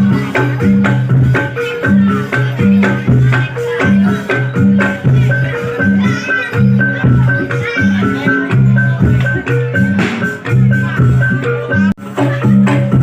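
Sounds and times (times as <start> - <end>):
drum and gong strokes: 0.0 - 13.0.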